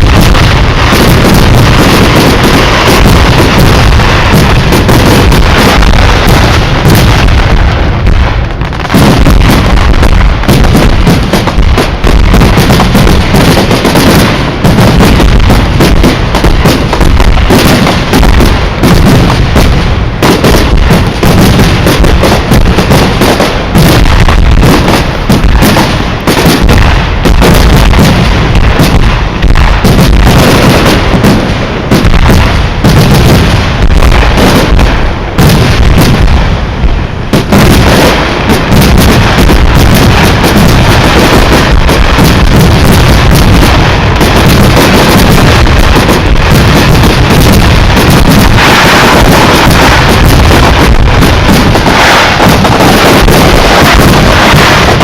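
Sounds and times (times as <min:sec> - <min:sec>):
fireworks bursts and bangs: 0:00.0 - 0:55.0.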